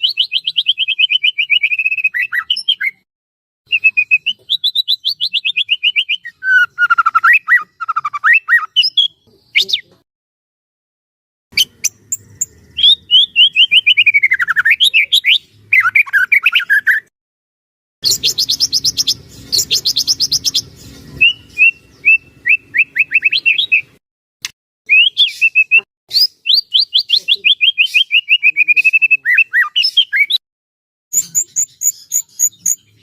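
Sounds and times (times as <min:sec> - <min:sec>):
bird singing whistled notes: 0:00.0 - 0:03.0, 0:03.7 - 0:09.9, 0:11.6 - 0:17.1, 0:18.0 - 0:24.0, 0:24.9 - 0:30.4, 0:31.1 - 0:33.0.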